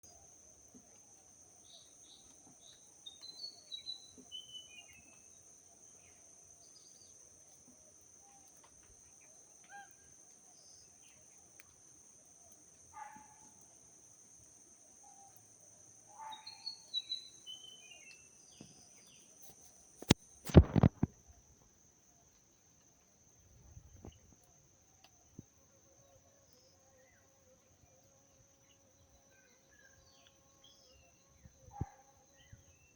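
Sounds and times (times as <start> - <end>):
songbird singing: 0.0 - 7.4, 8.0 - 11.8, 14.9 - 21.0, 23.7 - 32.9.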